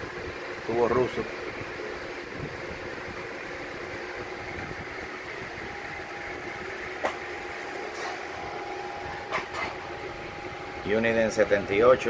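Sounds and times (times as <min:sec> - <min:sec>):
cooling fan running: 0:00.0 - 0:12.0.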